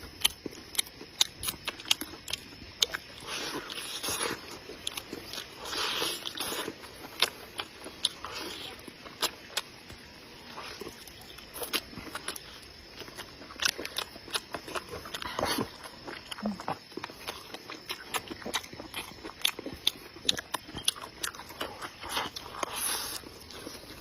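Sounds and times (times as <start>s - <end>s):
person chewing meat: 0.0s - 24.0s.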